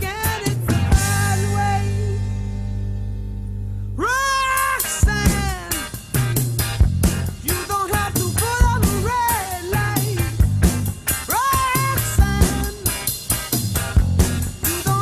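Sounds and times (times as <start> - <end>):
regular drum beat: 0.0 - 3.0, 4.5 - 15.0.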